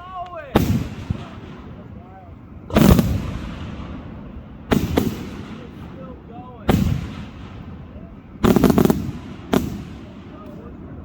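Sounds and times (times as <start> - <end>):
fireworks bursting with deep booms: 0.0 - 11.0.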